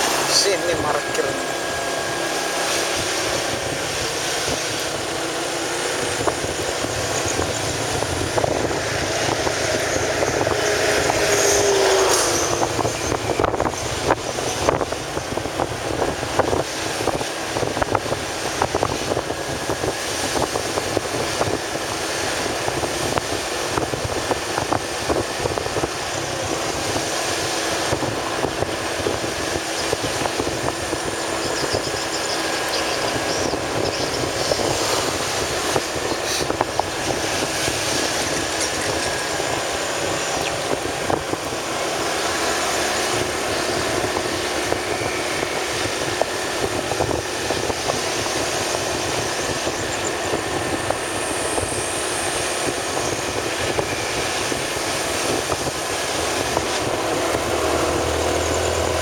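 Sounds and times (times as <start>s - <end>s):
motorcycle engine hum: 0.0s - 59.0s
wind and road noise: 0.0s - 59.0s.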